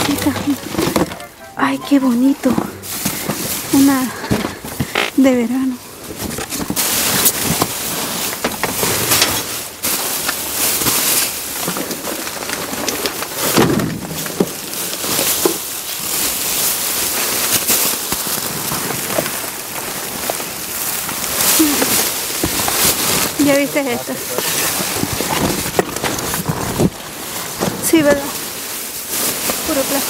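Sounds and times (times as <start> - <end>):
plastic bags crinkling: 0.0 - 30.0.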